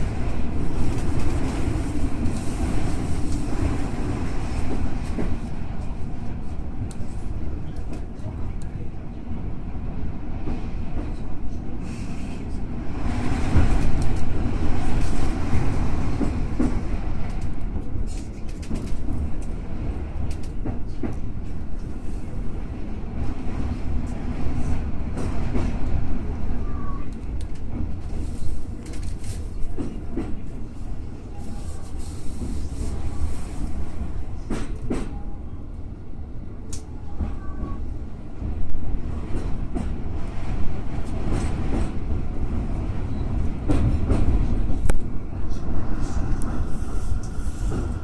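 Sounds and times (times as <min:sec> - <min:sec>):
electric train rumbling on rails: 0:00.0 - 0:48.0.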